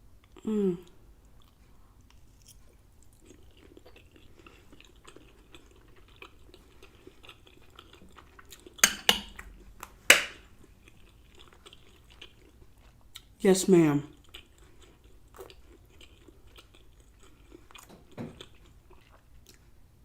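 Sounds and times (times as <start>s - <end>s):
person chewing food: 0.2s - 13.4s, 14.1s - 19.8s.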